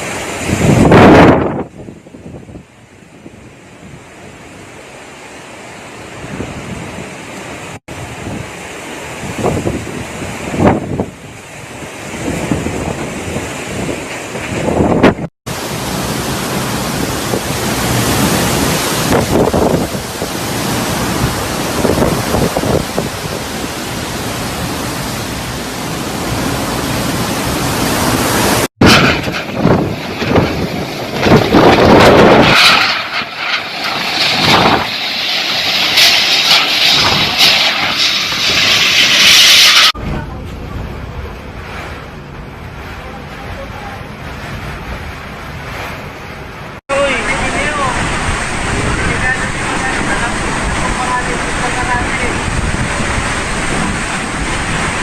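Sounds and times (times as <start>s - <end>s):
wind rushing: 0.0s - 4.2s, 6.2s - 43.1s, 44.1s - 55.0s
wind buffeting the microphone: 0.0s - 4.6s, 6.2s - 55.0s
heavy rain downpour: 0.0s - 55.0s.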